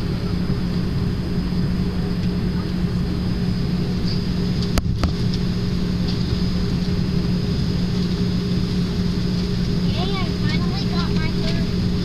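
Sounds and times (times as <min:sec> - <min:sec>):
airliner engine drone: 0:00.0 - 0:12.0
thin high whine: 0:00.0 - 0:12.0.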